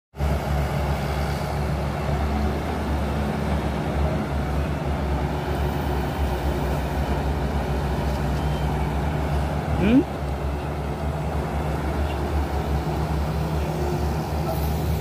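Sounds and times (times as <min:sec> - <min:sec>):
excavator diesel engine running: 0:00.2 - 0:15.0.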